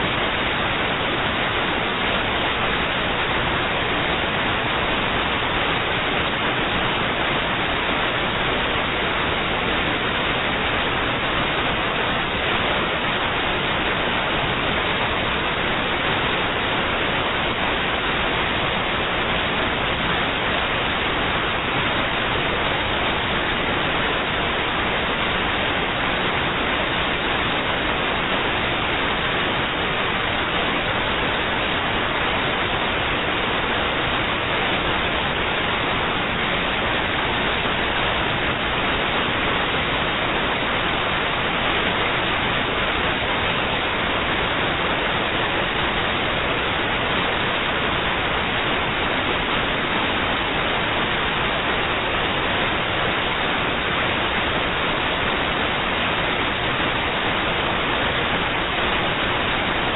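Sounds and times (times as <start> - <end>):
steady static hiss: 0.0 - 59.9.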